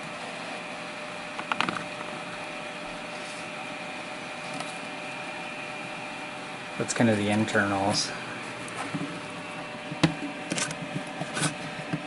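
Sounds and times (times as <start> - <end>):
hum of fans or electronics: 0.0 - 12.0.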